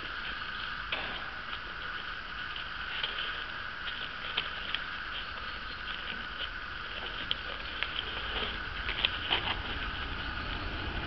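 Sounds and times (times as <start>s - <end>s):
faint high background hum: 0.0s - 11.0s.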